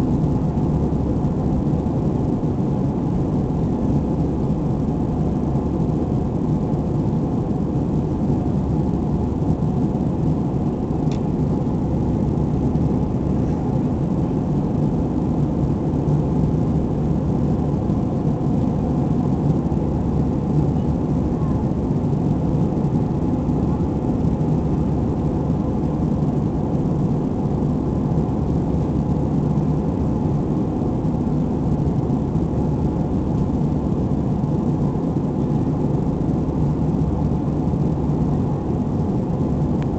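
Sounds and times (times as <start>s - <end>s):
aircraft engine hum: 0.0s - 39.9s.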